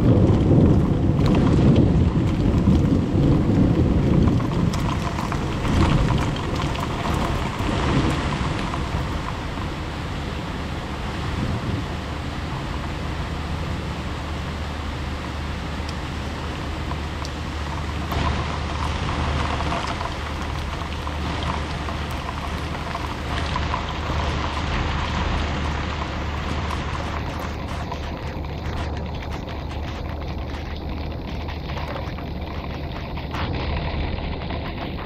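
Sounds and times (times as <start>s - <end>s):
low thunder rumble: 0.0s - 35.0s
raindrop ticks: 0.0s - 35.0s
heavy rain hissing: 0.6s - 35.0s.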